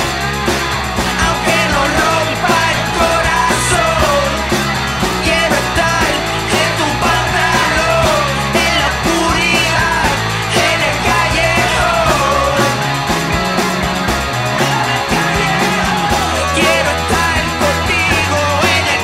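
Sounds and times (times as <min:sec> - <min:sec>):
rock and roll band with vocals: 0:00.0 - 0:19.0.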